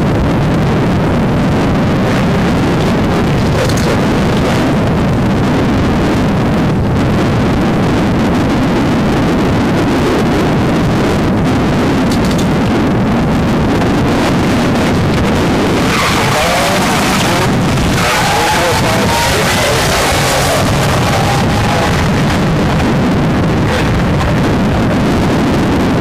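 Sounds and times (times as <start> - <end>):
car engines rumbling: 0.0 - 26.0
wind buffeting microphone: 0.0 - 26.0.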